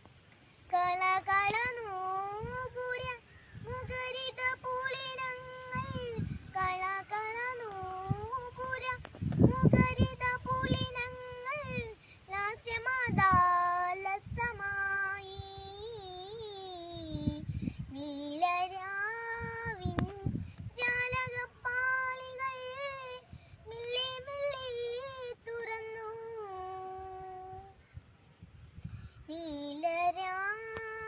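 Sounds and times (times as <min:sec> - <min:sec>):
young girl singing: 0:00.6 - 0:28.1, 0:28.7 - 0:31.0.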